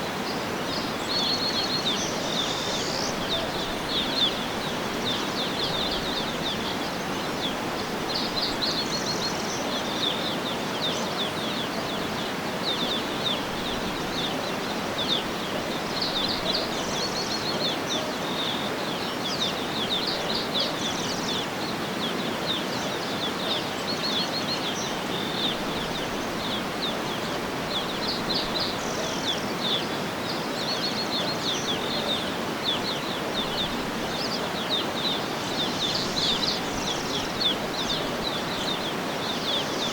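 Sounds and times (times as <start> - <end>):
outdoor ambience hiss: 0.0 - 39.9
songbirds chirping: 0.0 - 39.9.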